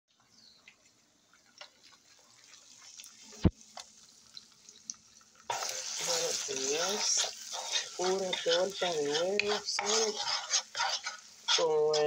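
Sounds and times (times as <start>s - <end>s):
eggs frying in oil: 0.1s - 12.0s.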